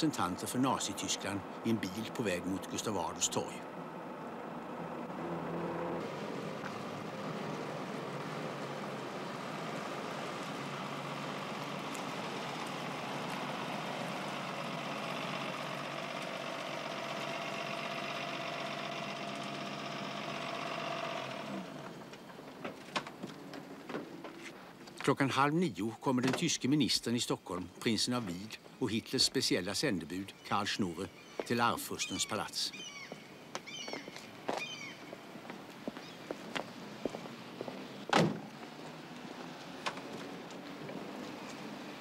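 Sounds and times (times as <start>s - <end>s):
car engine and road noise: 0.0s - 25.2s, 32.8s - 42.0s.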